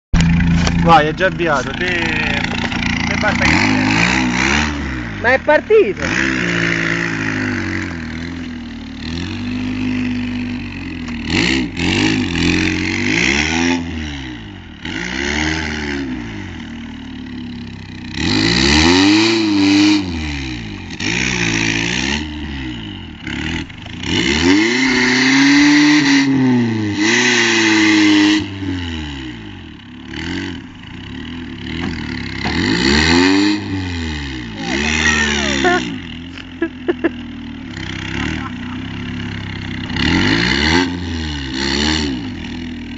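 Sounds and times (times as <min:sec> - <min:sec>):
car engine revving: 0:00.2 - 0:42.9.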